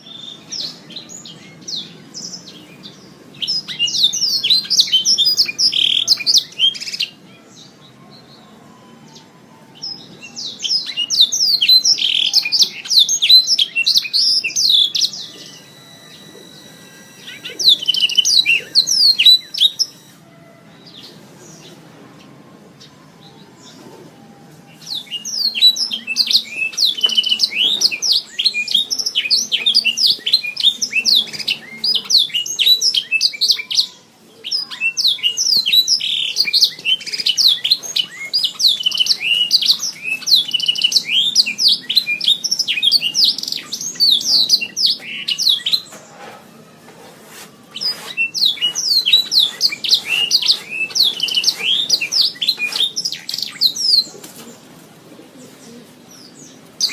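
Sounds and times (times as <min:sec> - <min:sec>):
canary singing trills: 0:00.0 - 0:46.5, 0:47.5 - 0:56.9.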